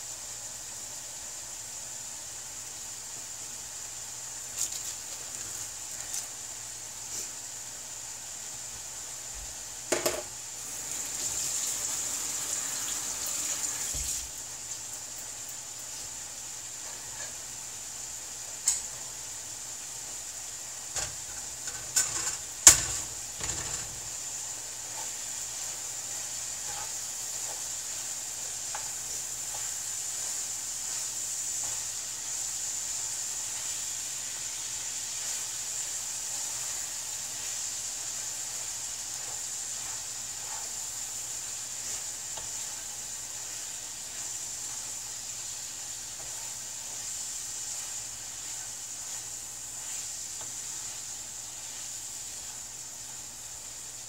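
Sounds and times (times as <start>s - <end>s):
meat sizzling in a pan: 0.0s - 54.0s.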